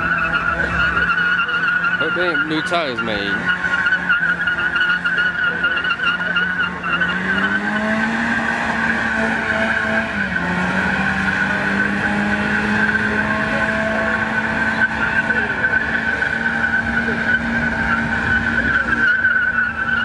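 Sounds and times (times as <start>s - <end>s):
car engine at high revs: 0.0s - 20.0s
tyres squealing: 0.0s - 20.0s.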